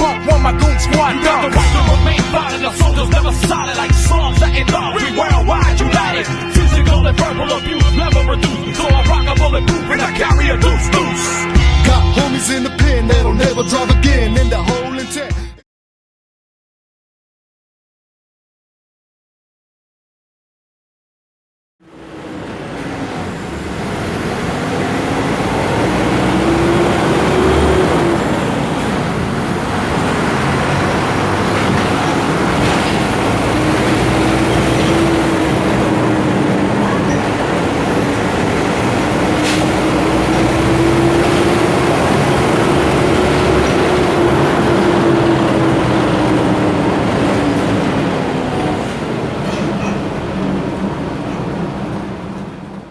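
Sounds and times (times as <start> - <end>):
bus diesel engine running: 0.0 - 14.9, 21.8 - 52.9.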